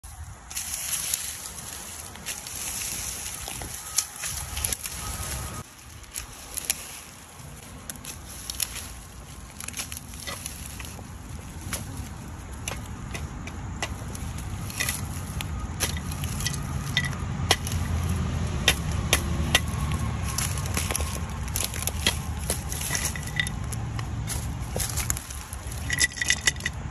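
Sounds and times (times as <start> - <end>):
rake dragging through leaves: 0.0 - 26.9
brittle sticks snapping: 0.5 - 26.9.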